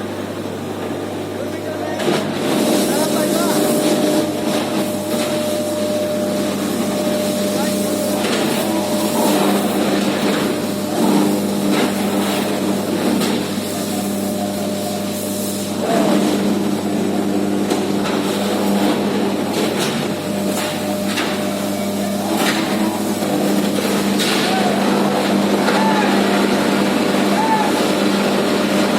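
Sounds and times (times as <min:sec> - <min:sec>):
loud electrical hum: 0:00.0 - 0:28.9.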